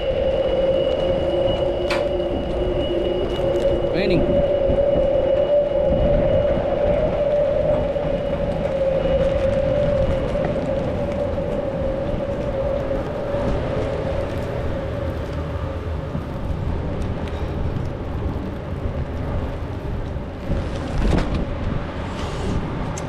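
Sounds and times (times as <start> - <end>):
wind and rain rumbling: 0.0 - 23.0.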